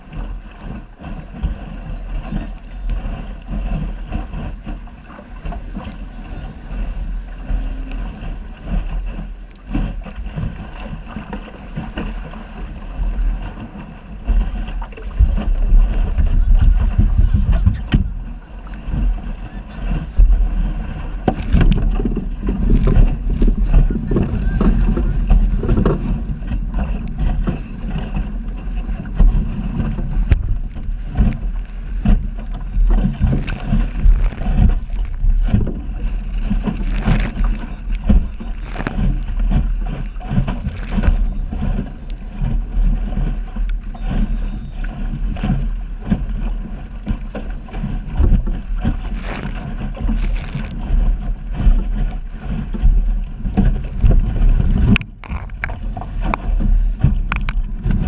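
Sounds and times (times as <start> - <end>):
water splashing against hull: 0.0 - 58.0
wind buffeting microphone: 0.0 - 58.0.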